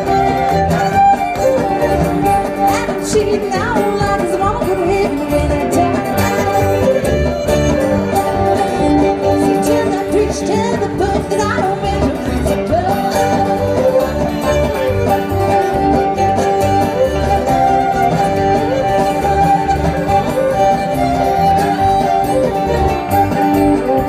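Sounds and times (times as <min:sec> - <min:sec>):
acoustic guitar: 0:00.0 - 0:24.0
banjo: 0:00.0 - 0:24.0
fiddle: 0:00.0 - 0:24.0.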